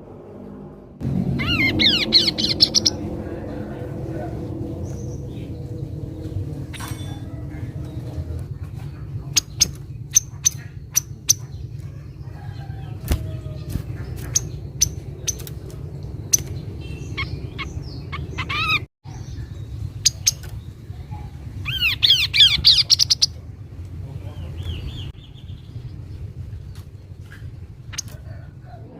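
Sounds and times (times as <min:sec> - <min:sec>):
low background rumble: 0:00.0 - 0:28.9.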